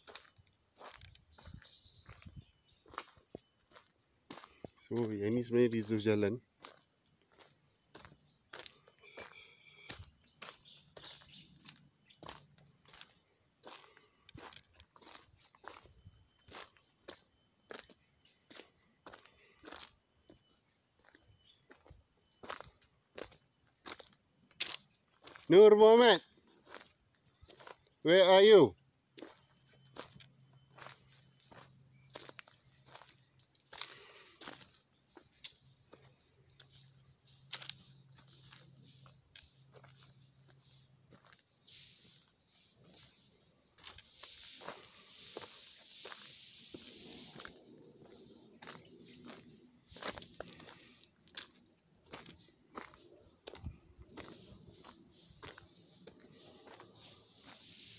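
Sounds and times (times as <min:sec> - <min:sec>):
footsteps on gravel: 0:00.0 - 0:05.3, 0:06.6 - 0:25.8, 0:29.2 - 0:42.2, 0:43.8 - 0:57.9
insects droning: 0:00.0 - 0:57.9.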